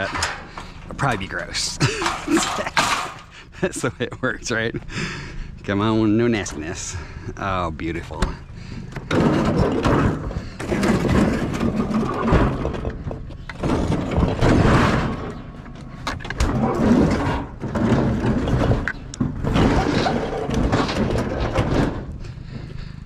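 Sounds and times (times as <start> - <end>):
refrigerator scraping and rattling: 0.0 - 4.8, 5.6 - 23.0.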